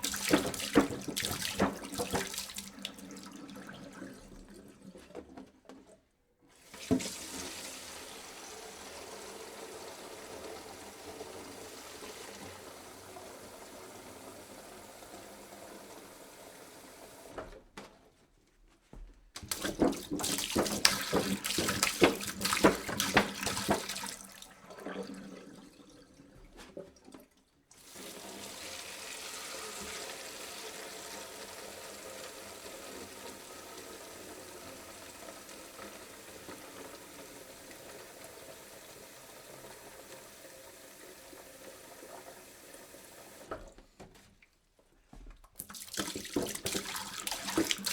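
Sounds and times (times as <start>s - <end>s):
water pouring into a jug: 0.0s - 5.3s, 6.6s - 17.0s, 19.4s - 43.7s, 45.6s - 47.9s.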